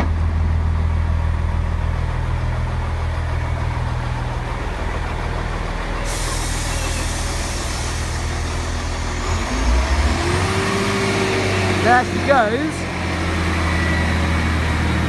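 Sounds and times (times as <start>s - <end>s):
train engine idling hum: 0.0s - 15.0s.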